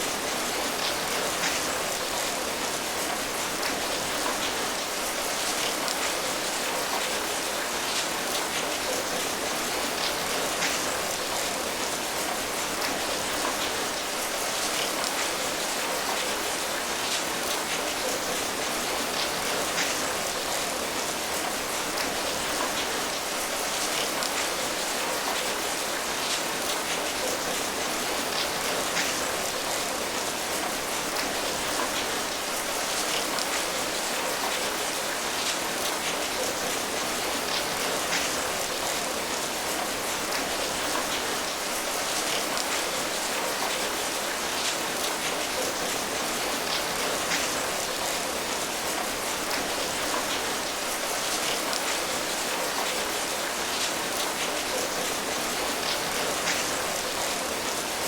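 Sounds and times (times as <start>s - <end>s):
steady rain falling: 0.0s - 58.0s
raindrops ticking on a surface: 0.1s - 58.0s.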